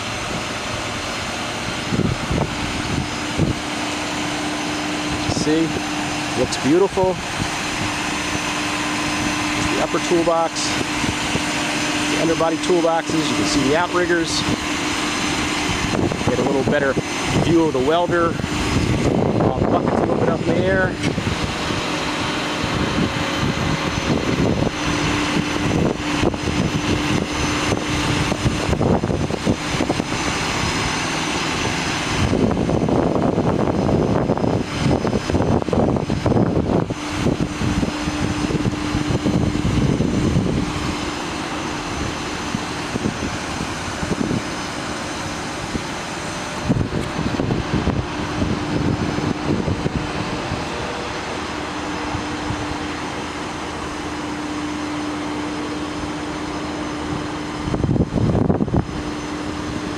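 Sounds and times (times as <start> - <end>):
diesel engine drone: 0.0 - 59.9
hydraulic whine: 0.0 - 59.9.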